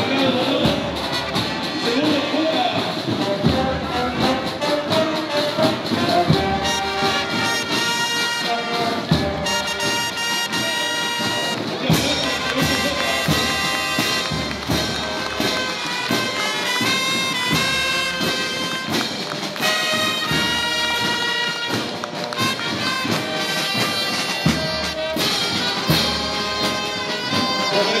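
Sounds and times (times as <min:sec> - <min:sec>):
brass band playing a march: 0:00.0 - 0:28.0.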